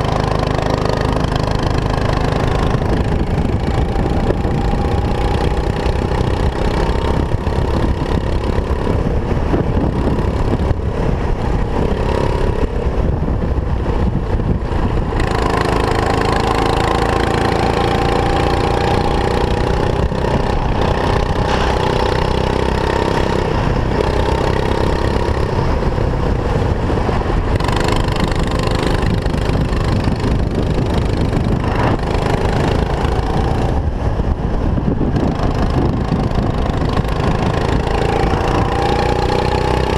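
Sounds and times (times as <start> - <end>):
racing kart engine: 0.0 - 39.9
steady low rumble: 0.0 - 39.9.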